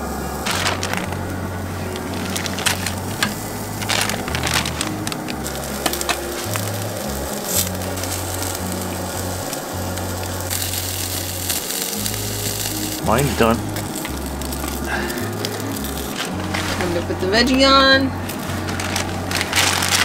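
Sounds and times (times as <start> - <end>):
plastic bag crinkling: 0.0 - 17.6, 18.2 - 20.0
background music with bass: 0.0 - 20.0
meat sizzling on a grill: 0.0 - 20.0.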